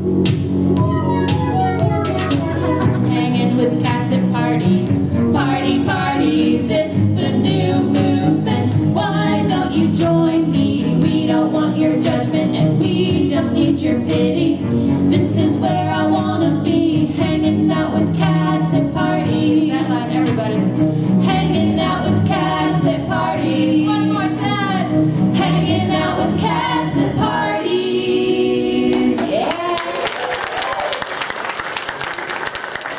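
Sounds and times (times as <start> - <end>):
live pop song with singing: 2.8 - 30.0.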